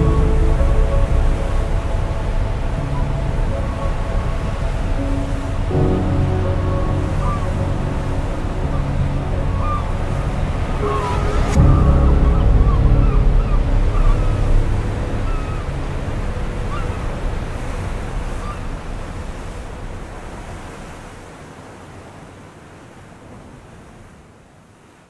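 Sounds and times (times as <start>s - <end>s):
ocean surf rushing: 0.0s - 25.0s.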